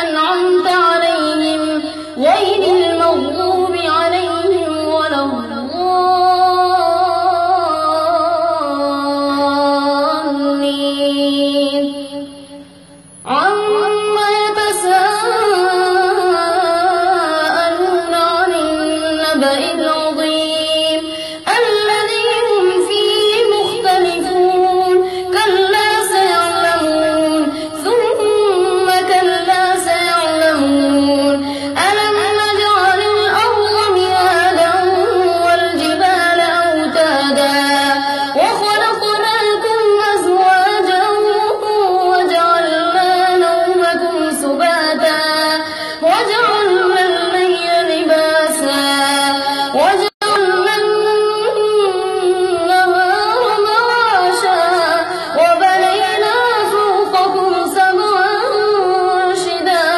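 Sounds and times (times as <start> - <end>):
boy reciting melodically: 0.0 - 59.9.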